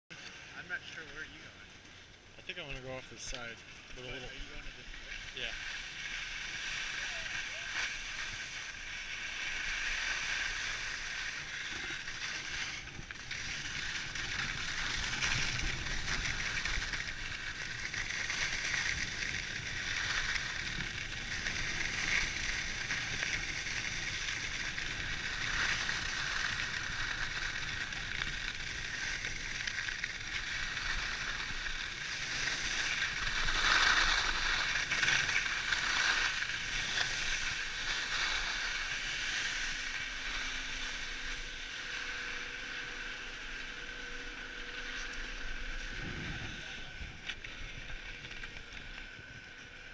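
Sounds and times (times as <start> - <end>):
skis scraping over packed snow: 0.1 - 49.9.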